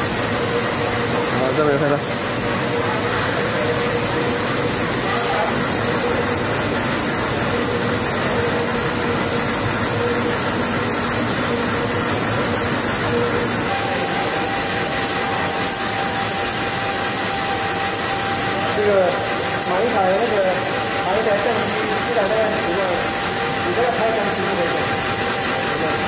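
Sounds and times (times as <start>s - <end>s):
constant machine tone: 0.0s - 26.0s
machine hiss and hum: 0.0s - 26.0s.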